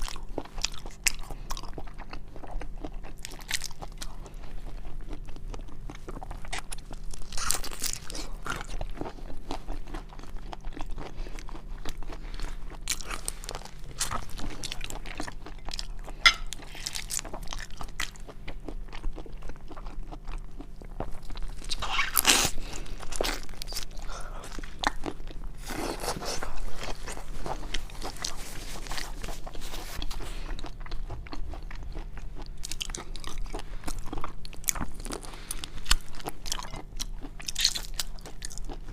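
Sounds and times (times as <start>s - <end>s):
crunching and wet chewing: 0.0s - 38.9s
faint steady hum: 0.0s - 38.9s.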